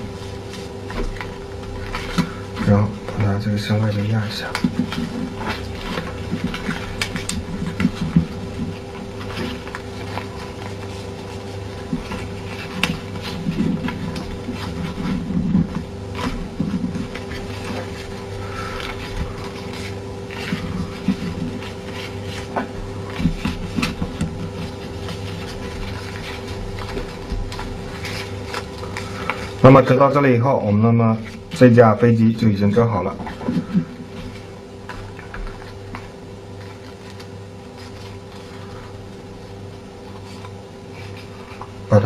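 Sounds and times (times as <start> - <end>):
paper rustling and crinkling: 0.0 - 42.0
steady low hum: 0.0 - 42.0.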